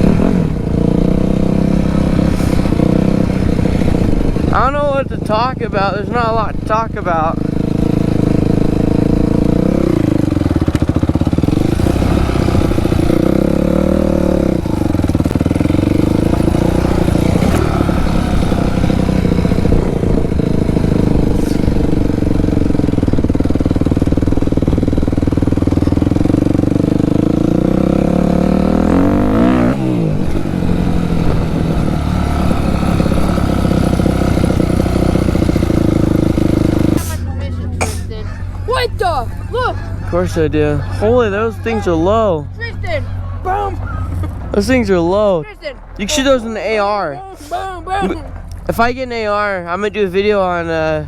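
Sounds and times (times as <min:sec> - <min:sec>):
dirt bike engine running: 0:00.0 - 0:51.0.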